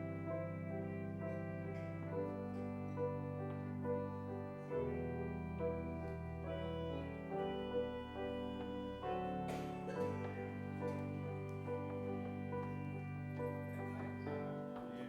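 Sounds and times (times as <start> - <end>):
slow keyboard music: 0.0 - 15.0.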